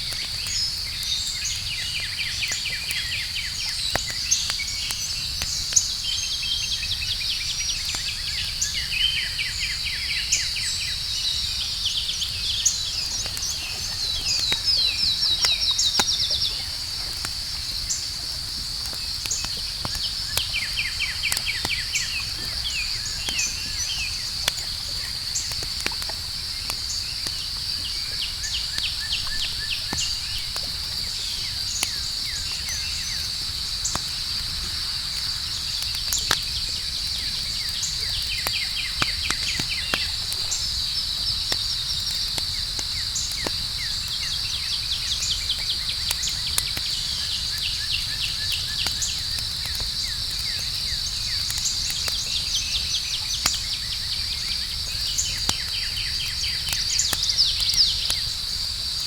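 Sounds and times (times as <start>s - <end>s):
campfire crackling and popping: 0.0s - 59.0s
night insects chorus: 0.0s - 59.0s.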